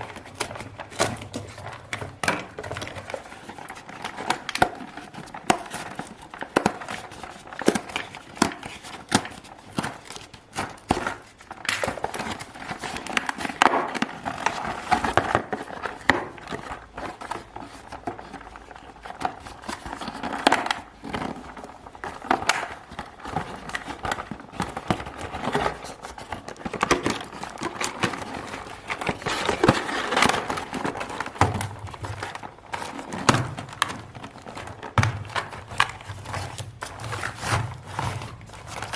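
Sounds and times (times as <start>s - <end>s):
foil wrappers crinkling: 0.0s - 38.9s.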